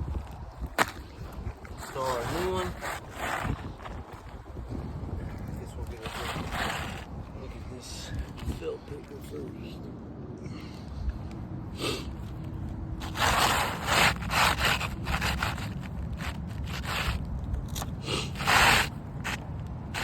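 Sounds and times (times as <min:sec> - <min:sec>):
roofing shingle scraping and rustling: 0:00.2 - 0:04.5, 0:05.3 - 0:09.3, 0:12.2 - 0:20.0.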